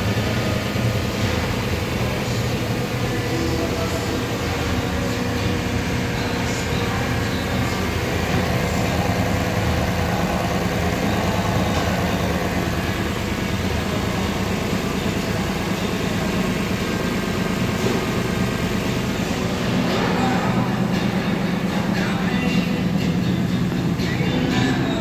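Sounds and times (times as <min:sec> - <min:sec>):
car engine running steadily: 0:00.0 - 0:25.0.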